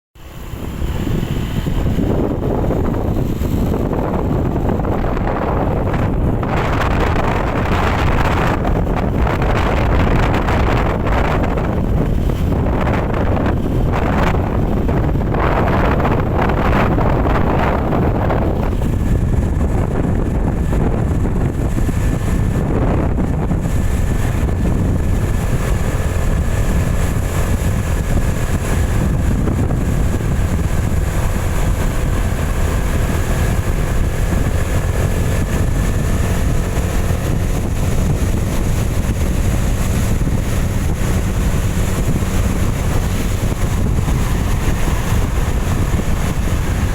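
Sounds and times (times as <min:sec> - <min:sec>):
engine and tyres on wet road: 0:00.2 - 0:46.9
wind noise on microphone: 0:00.2 - 0:46.9.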